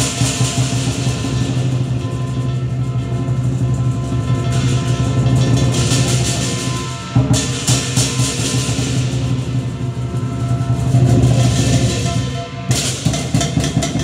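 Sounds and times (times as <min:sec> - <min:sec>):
big drum beaten in a roll: 0:00.0 - 0:14.0
cymbals crashing: 0:00.0 - 0:14.0.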